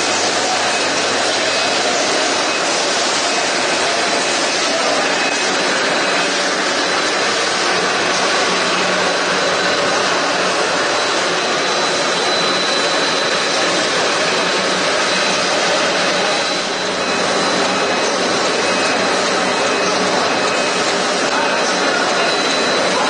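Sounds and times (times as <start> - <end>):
paper cutting machine running: 0.0 - 23.0.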